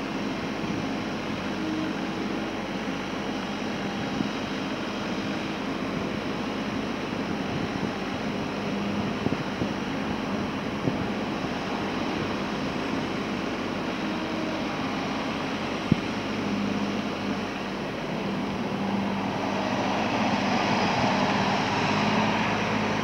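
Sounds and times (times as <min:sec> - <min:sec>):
diesel engine running: 0:00.0 - 0:23.0
hydraulic rushing hum: 0:00.0 - 0:23.0.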